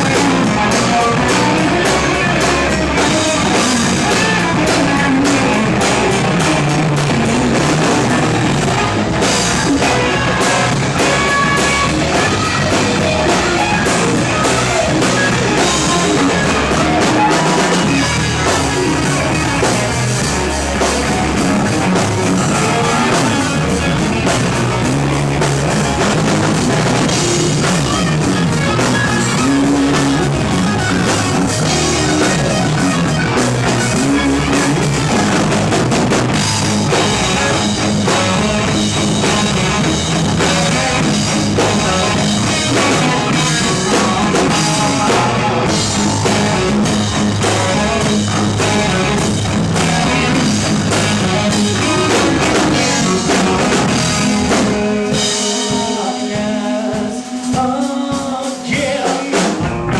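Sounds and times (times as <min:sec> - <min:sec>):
electric guitar: 0:00.0 - 0:59.9
rock band playing live: 0:00.0 - 0:59.9.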